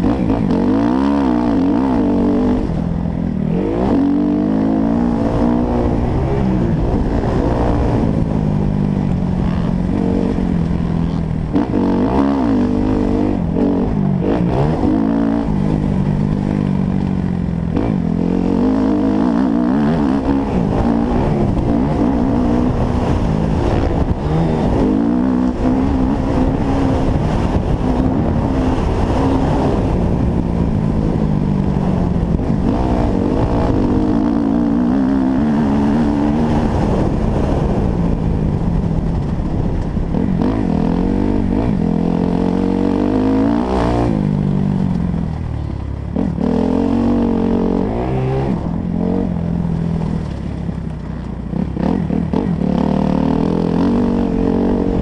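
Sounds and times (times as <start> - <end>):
motocross bike engine revving: 0.0 - 17.0, 17.6 - 38.0, 40.0 - 44.6, 46.1 - 49.8, 51.5 - 55.0.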